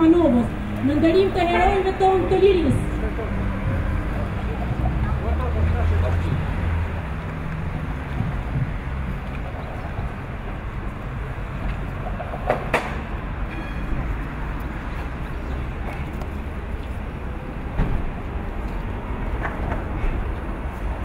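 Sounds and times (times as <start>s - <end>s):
distant traffic rumble: 0.0s - 21.0s
wind: 0.0s - 21.0s.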